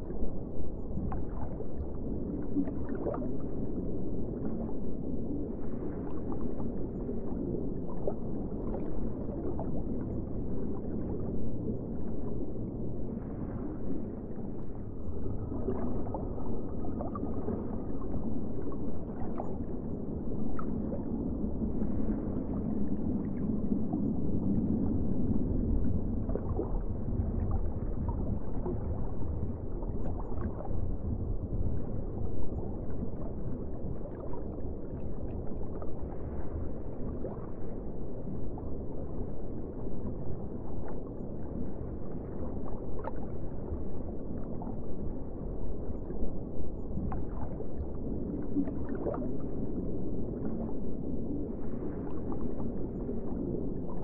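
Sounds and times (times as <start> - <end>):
muffled underwater rumble: 0.0 - 54.0.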